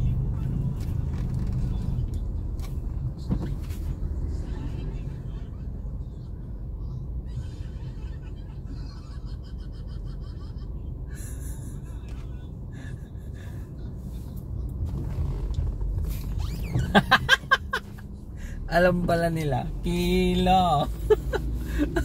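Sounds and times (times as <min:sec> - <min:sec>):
car rumble from inside cabin: 0:00.0 - 0:22.0.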